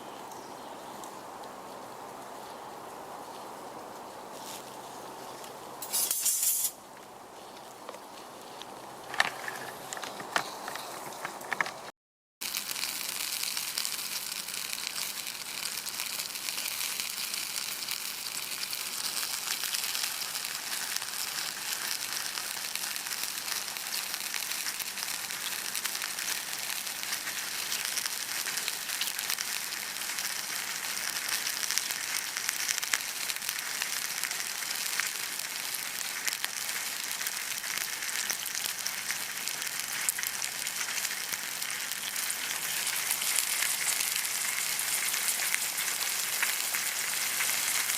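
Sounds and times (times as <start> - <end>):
steak sizzling over embers: 5.7 - 11.2, 12.4 - 47.9.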